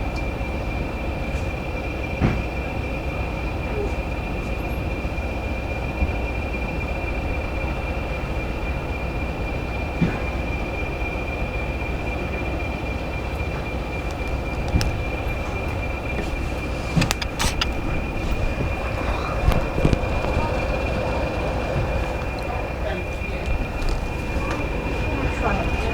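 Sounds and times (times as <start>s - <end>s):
train rumbling: 0.0s - 25.9s.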